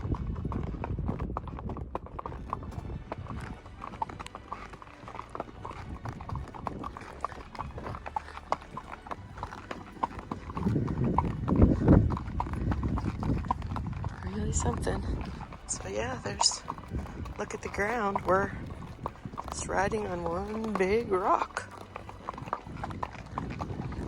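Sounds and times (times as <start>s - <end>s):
horse hooves clip-clopping on rock: 0.0s - 24.0s
low rumble: 0.0s - 24.0s.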